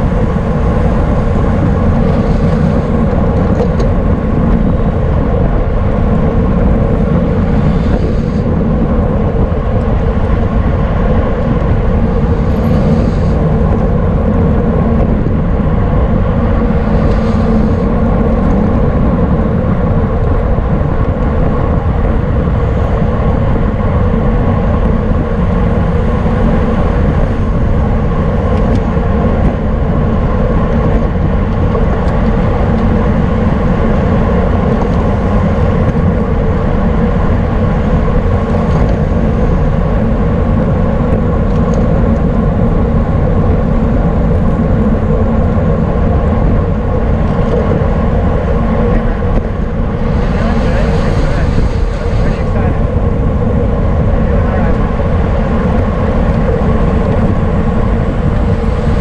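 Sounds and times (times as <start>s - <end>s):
constant hum: 0.0s - 59.0s
wind rumbling on microphone: 0.0s - 59.0s.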